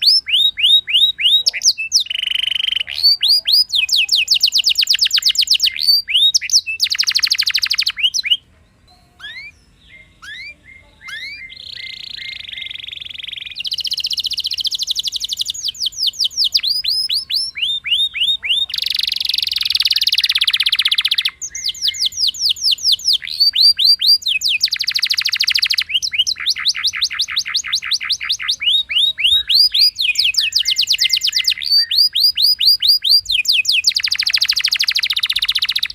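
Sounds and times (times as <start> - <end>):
canary singing: 0.0 - 35.9.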